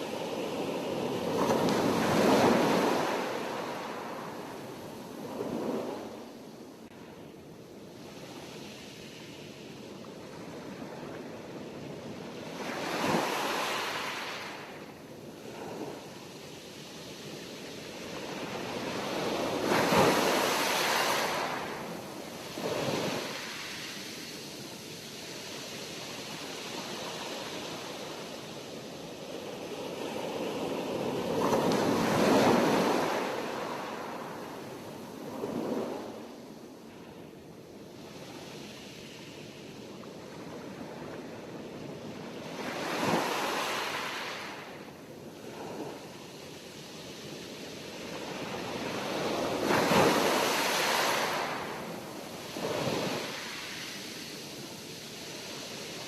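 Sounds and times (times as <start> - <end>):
steady hiss of surf: 0.0 - 56.0.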